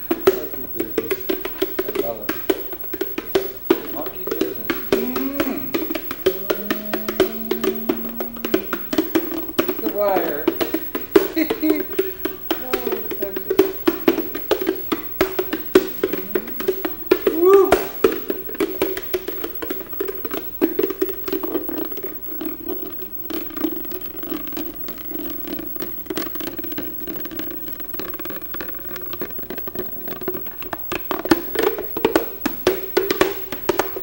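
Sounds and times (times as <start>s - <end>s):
rapid irregular percussion taps: 0.0s - 34.0s
wavering mid-pitched drone: 1.7s - 30.1s.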